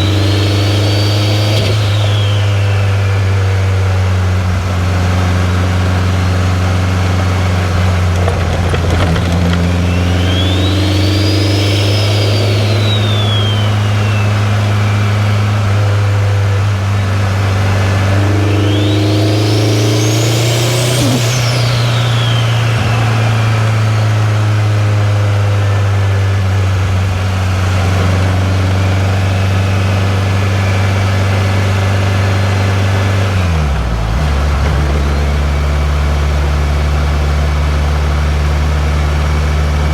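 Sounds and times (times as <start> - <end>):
car engine pulling: 0.0 - 39.9
turbo whine: 0.0 - 39.9.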